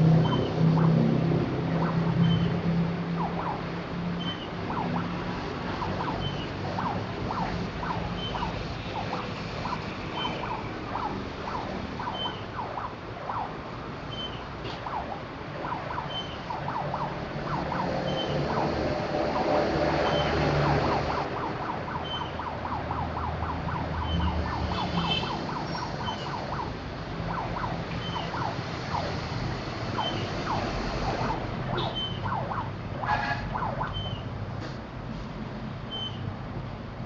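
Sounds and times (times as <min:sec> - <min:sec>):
electronic siren-like warbling: 0:00.0 - 0:34.3.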